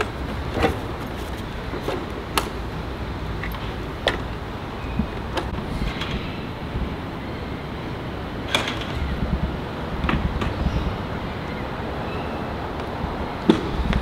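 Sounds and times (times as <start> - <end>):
street noise rumble: 0.0 - 14.0.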